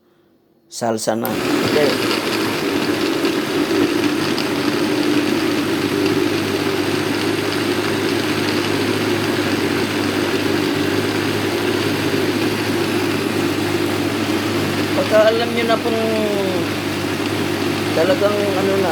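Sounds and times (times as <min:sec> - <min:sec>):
food processor motor grinding: 0:01.2 - 0:18.9.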